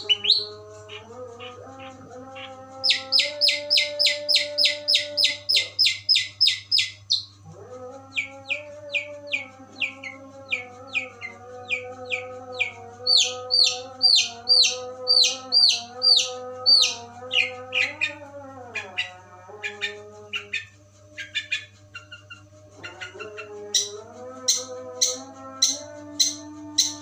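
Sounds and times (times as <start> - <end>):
bird chirping song: 0.0 - 27.0
faint steady hum: 0.0 - 27.0.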